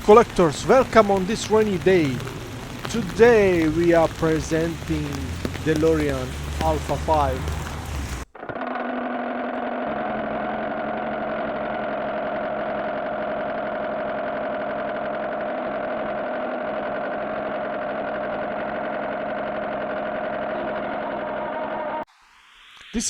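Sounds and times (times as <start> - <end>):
car engine idling: 0.0 - 8.3, 9.2 - 22.0.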